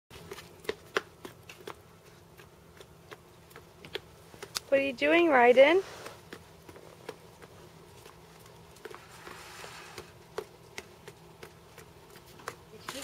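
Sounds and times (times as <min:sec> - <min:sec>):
footsteps on stone pavers: 0:00.1 - 0:13.0.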